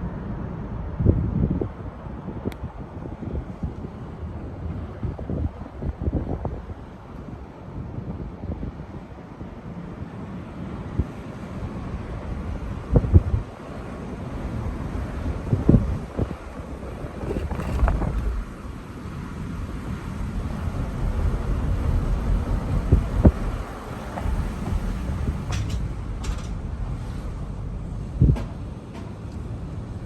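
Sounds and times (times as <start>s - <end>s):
wind buffeting microphone: 0.1s - 30.0s.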